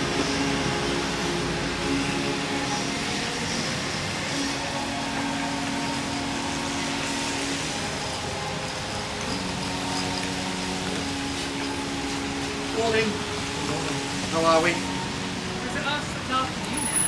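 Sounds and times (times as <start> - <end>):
car engines humming: 0.0 - 17.0
tyres on wet road: 0.0 - 17.0.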